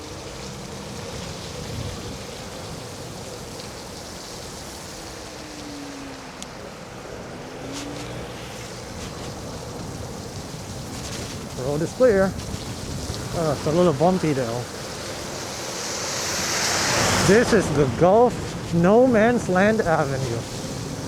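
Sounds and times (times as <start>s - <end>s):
scooter tyre noise on road: 0.0s - 21.0s
wind rush: 0.3s - 21.0s.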